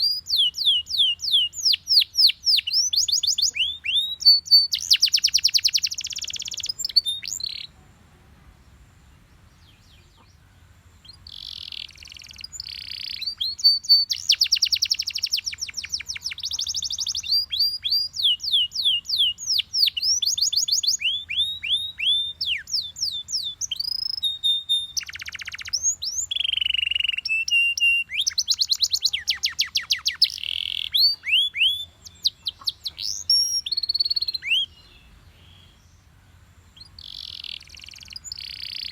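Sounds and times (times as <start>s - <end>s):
canary singing trills: 0.0s - 7.8s, 9.1s - 38.9s.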